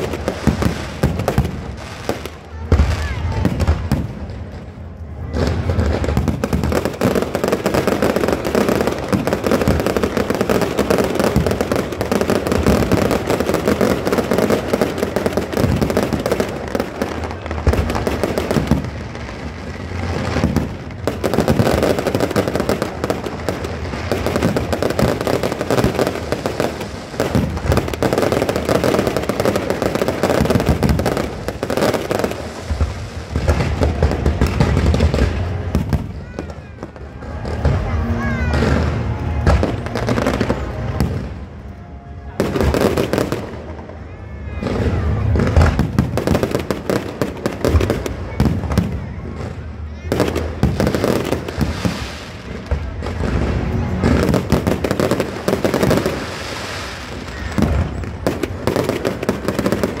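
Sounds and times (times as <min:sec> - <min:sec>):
fireworks bangs and crackles: 0:00.0 - 1:00.0.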